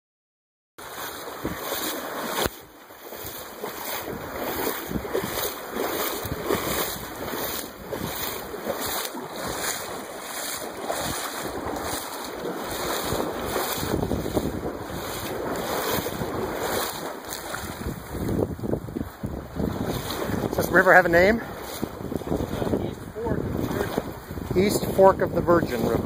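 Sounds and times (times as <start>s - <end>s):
footsteps splashing through water: 0.8s - 26.0s
rushing river water: 0.8s - 26.0s
wind buffeting microphone: 1.1s - 26.0s.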